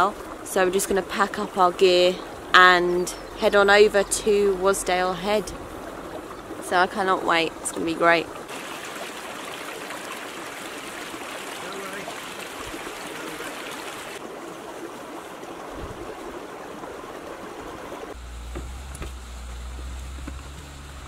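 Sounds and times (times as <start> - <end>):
stream running over stones: 0.0 - 21.0.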